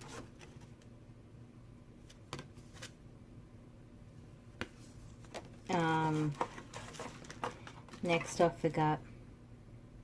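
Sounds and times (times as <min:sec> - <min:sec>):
low room tone hum: 0:00.0 - 0:10.0.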